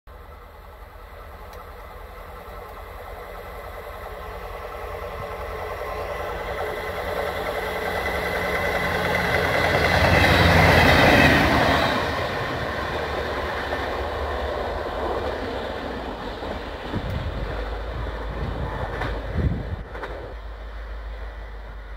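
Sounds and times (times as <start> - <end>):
passenger train passing: 0.1 - 21.9.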